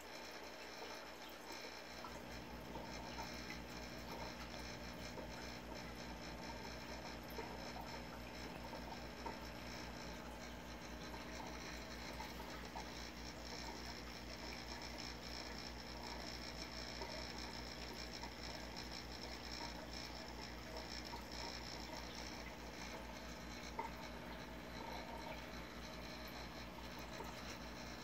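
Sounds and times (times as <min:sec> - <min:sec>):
aquarium equipment humming: 0:00.0 - 0:28.0
faint ticks: 0:00.1 - 0:28.0.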